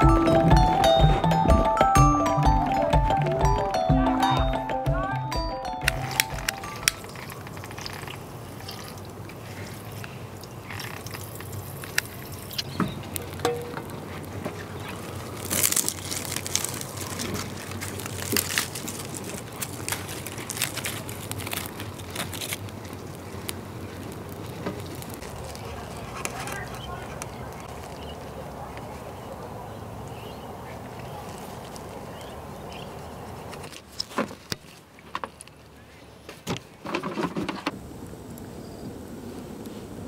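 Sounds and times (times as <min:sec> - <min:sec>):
campfire crackling and popping: 0:00.0 - 0:30.3, 0:37.6 - 0:40.0.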